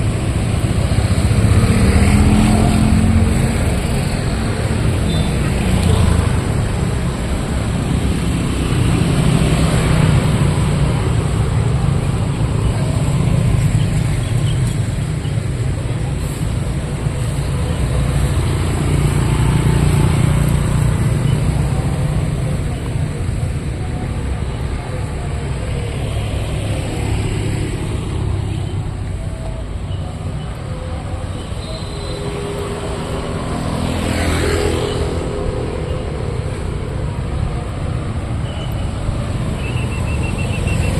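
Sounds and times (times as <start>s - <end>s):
street traffic rumble: 0.0s - 40.9s.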